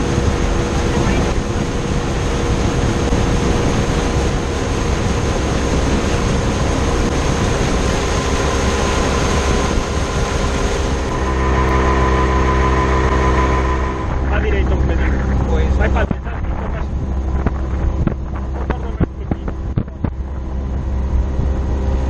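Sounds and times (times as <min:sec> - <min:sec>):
outboard engine drone: 0:00.0 - 0:22.0
rush of wind and water: 0:00.0 - 0:22.0.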